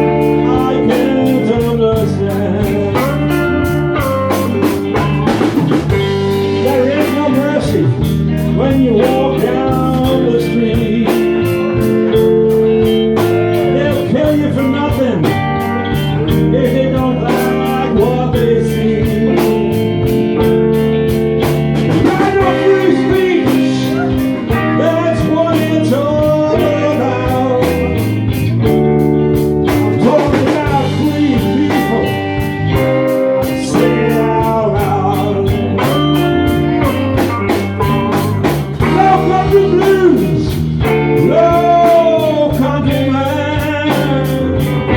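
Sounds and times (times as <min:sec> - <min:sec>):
blues band playing live: 0:00.0 - 0:44.9
drum kit beat: 0:00.0 - 0:44.9
electric guitar: 0:00.0 - 0:44.9
person singing: 0:00.0 - 0:44.9.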